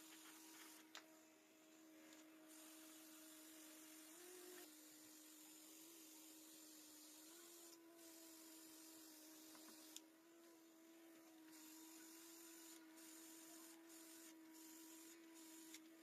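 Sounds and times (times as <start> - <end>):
soft air hiss: 0.0 - 16.0
airbrush compressor hum: 2.4 - 10.0, 10.6 - 15.9.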